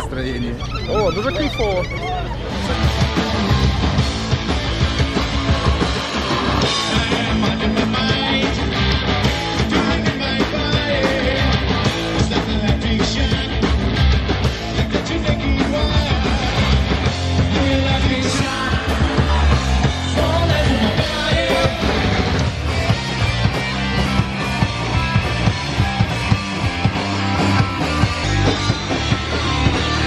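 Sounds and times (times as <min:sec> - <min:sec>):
punk rock band playing: 0:00.0 - 0:30.0.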